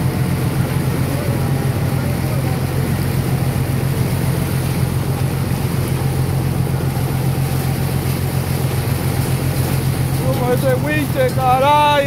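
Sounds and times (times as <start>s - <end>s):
boat engine droning: 0.0s - 12.0s
water rushing along hull: 0.0s - 12.0s.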